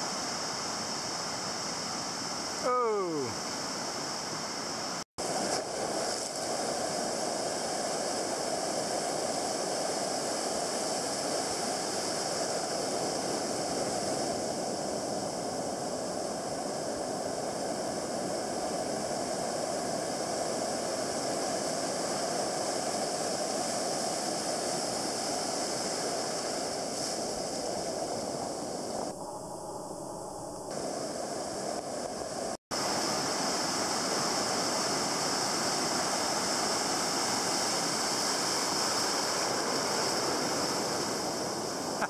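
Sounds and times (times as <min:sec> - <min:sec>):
ocean surf breaking: 0:00.0 - 0:42.0.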